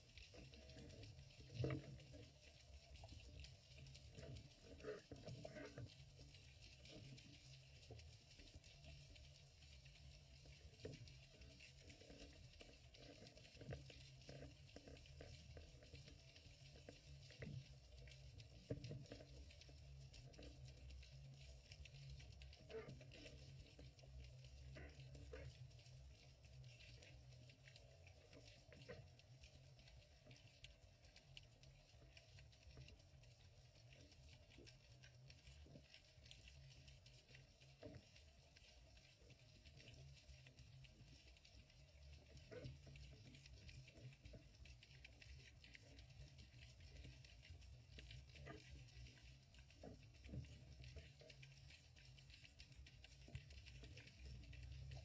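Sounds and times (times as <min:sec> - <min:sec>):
small clicks and crackles: 0:00.0 - 0:55.0.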